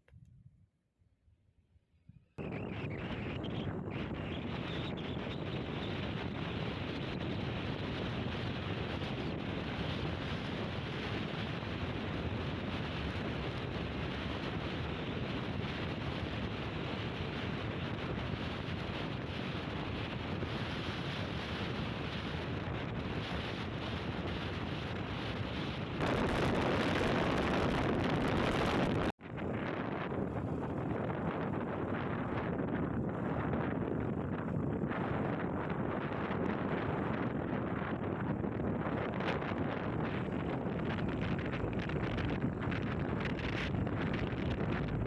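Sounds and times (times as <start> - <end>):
wind buffeting microphone: 2.1 - 45.0
strong wind blowing: 2.4 - 45.0.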